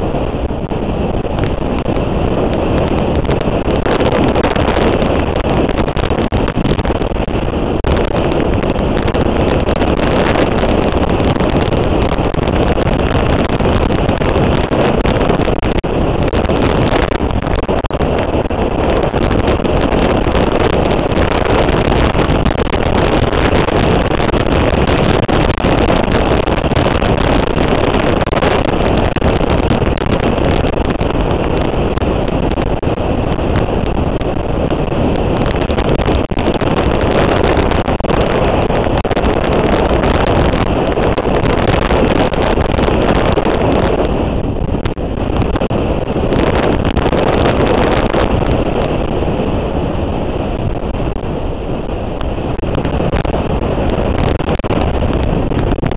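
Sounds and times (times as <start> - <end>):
motorcycle engine at speed: 0.0 - 55.9
wind buffeting microphone: 0.0 - 55.9.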